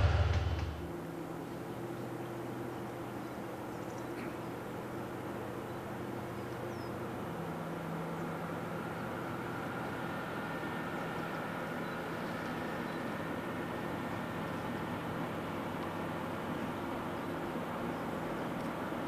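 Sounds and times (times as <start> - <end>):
diesel train engine running: 0.0 - 19.0.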